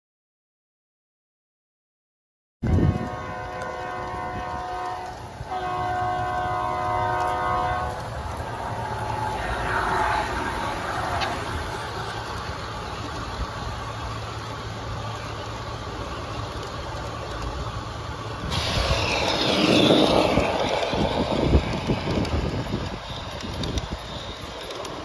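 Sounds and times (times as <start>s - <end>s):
model train wheels rumbling: 2.6s - 25.0s.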